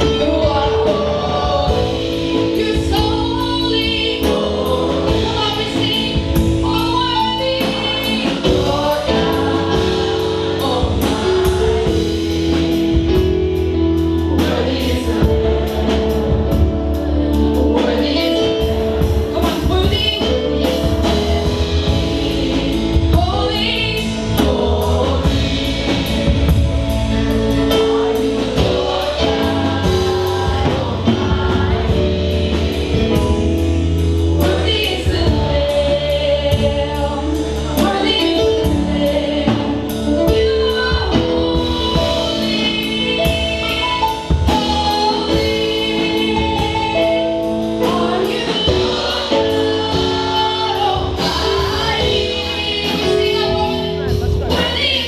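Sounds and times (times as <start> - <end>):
band playing: 0.0 - 55.0
drum kit beat: 0.0 - 55.0
gospel song sung by voices: 0.0 - 55.0.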